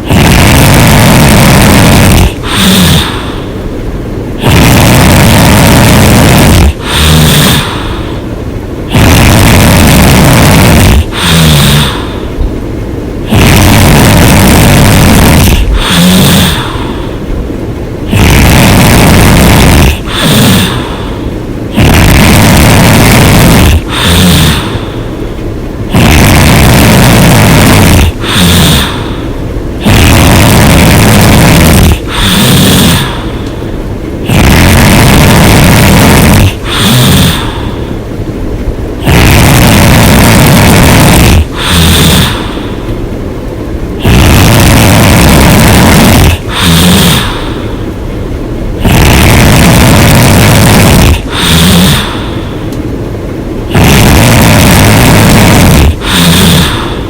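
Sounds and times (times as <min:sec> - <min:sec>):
person snoring loudly: 0:00.0 - 0:03.7, 0:04.4 - 0:08.3, 0:08.9 - 0:12.4, 0:13.2 - 0:17.3, 0:18.0 - 0:25.2, 0:25.9 - 0:33.6, 0:34.2 - 0:38.0, 0:39.0 - 0:42.9, 0:44.0 - 0:48.0, 0:48.8 - 0:52.7, 0:53.6 - 0:57.0
breath with low hum: 0:00.0 - 0:57.0.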